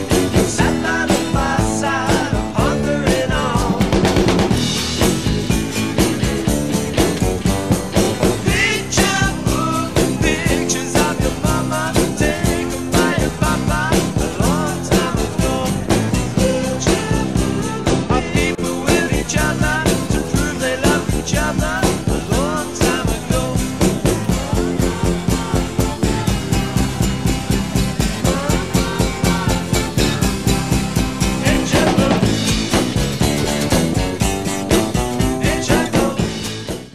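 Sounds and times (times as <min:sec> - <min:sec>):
music with fast beat: 0:00.0 - 0:36.9.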